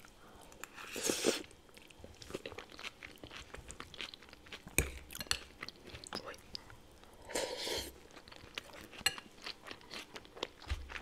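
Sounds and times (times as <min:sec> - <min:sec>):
chewing crunchy salad: 0:00.0 - 0:11.0.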